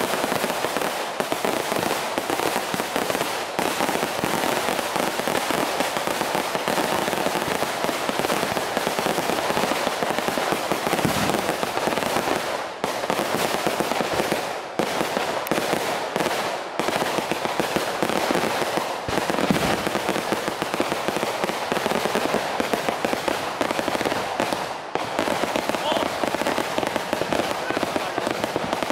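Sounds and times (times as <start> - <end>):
firecrackers crackling: 0.0 - 28.9.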